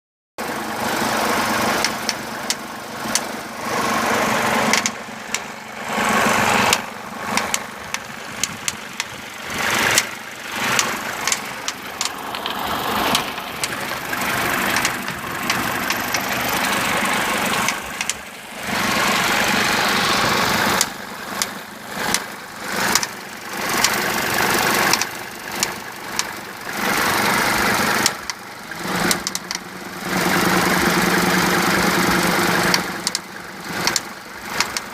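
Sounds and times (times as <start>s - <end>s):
diesel engine running: 0.4s - 34.9s
engine ticking and knocking: 0.4s - 34.9s.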